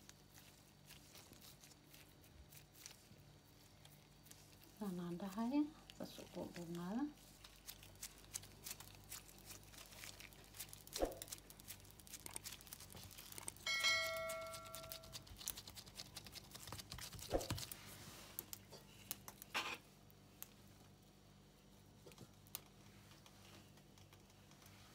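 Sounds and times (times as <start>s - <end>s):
plastic gloves crinkling: 0.0s - 24.9s.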